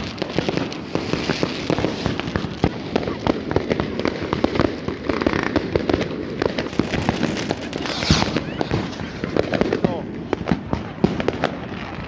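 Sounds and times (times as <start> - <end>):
firecrackers and fireworks banging: 0.0 - 12.0.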